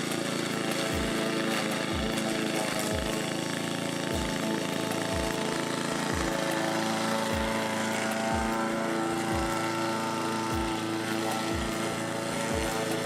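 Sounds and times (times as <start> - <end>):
background music: 0.0 - 13.0
mower engine running: 0.0 - 13.0.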